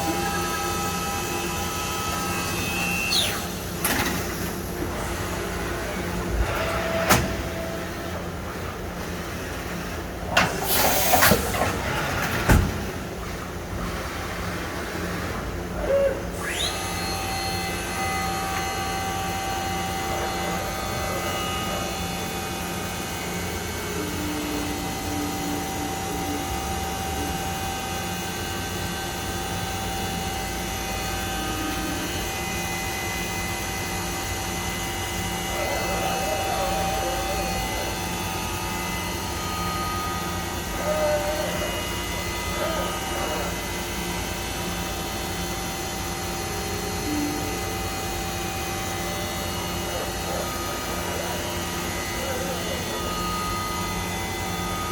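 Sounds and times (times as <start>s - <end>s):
machine spindle whine: 0.0s - 54.9s.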